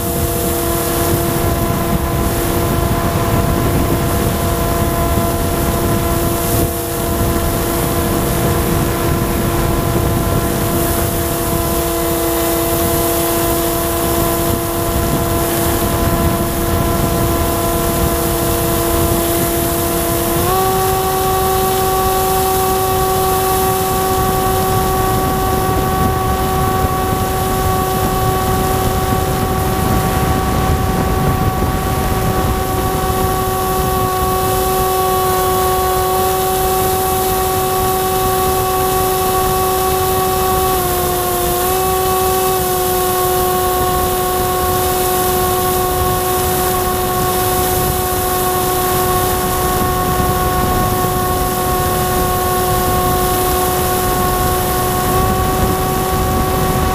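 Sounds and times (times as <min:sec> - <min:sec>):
electric motor and propeller whining: 0:00.0 - 0:56.9
wind rushing over airframe: 0:00.0 - 0:56.9.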